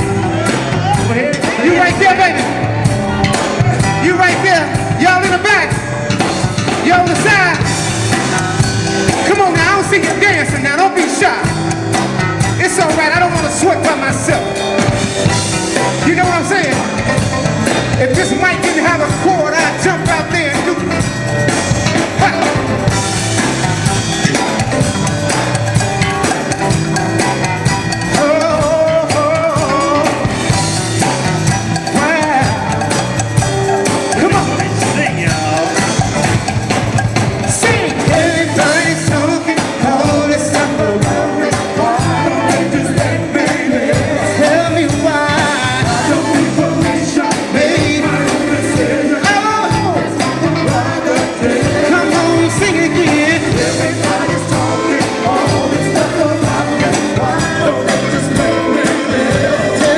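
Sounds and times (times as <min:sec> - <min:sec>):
live band music: 0:00.0 - 0:59.9.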